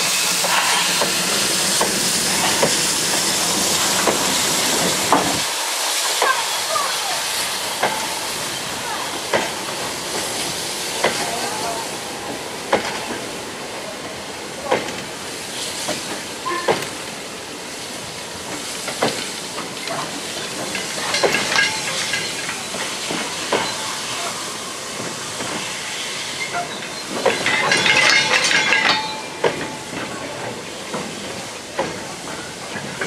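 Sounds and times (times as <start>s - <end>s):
train wheels clanking over rail joints: 0.0s - 33.0s.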